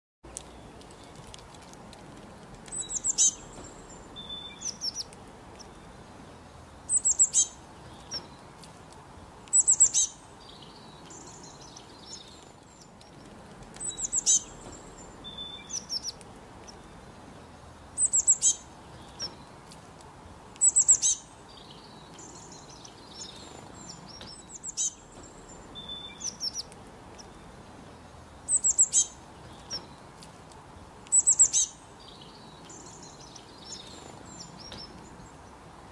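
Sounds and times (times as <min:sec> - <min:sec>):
songbird high-pitched calls: 0:02.7 - 0:06.1, 0:06.9 - 0:08.6, 0:09.5 - 0:19.6, 0:20.6 - 0:30.1, 0:31.0 - 0:35.6
faint bird twittering: 0:02.7 - 0:08.6, 0:09.5 - 0:19.6, 0:20.6 - 0:30.0, 0:31.1 - 0:35.6.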